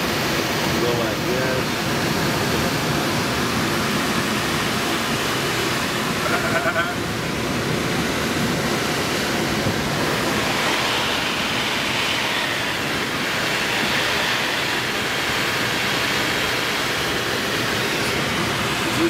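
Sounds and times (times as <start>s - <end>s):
air rushing over glider: 0.0s - 19.0s.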